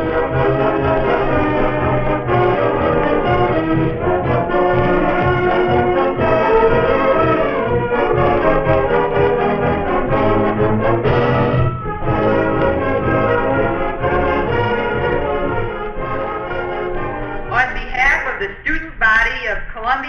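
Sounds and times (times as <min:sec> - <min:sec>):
brass band playing: 0:00.0 - 0:18.3.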